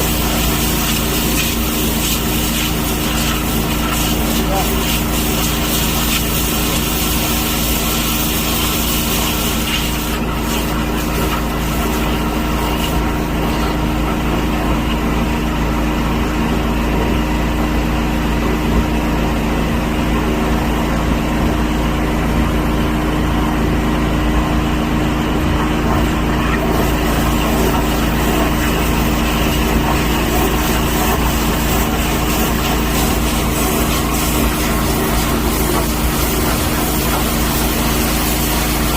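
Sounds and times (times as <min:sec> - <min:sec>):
steady mechanical drone: 0:00.0 - 0:38.9.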